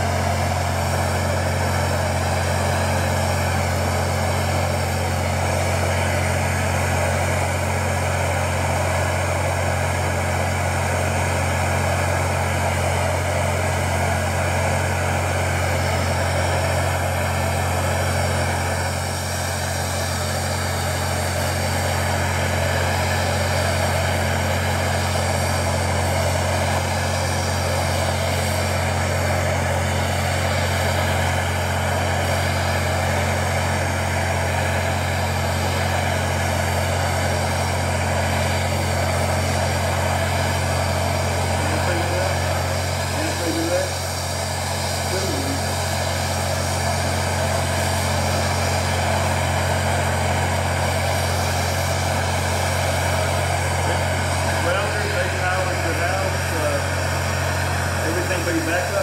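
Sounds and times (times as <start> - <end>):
gas torch burning: 0.0 - 59.0.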